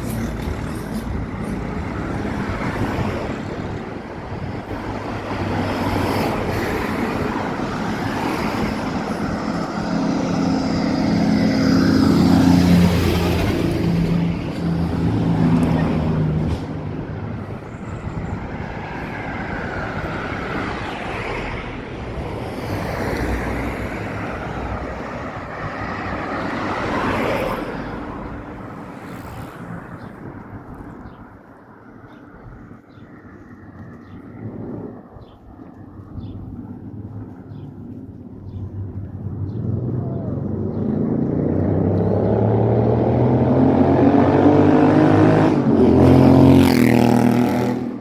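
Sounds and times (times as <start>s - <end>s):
vehicle passing by: 0.0s - 30.4s, 37.2s - 48.0s.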